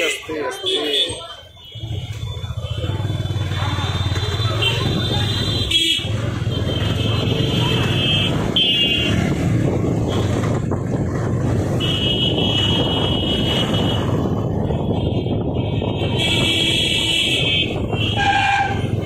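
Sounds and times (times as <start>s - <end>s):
motorcycle engine and road rumble: 1.3s - 19.0s.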